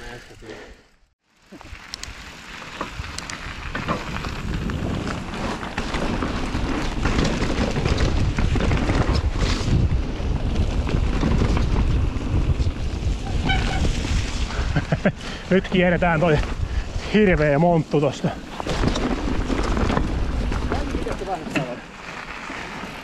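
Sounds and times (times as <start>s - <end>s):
tyres on dirt trail: 0.0s - 23.0s
bike clicks and rattles: 1.4s - 17.0s, 17.9s - 23.0s
wind rushing over microphone: 2.9s - 21.4s.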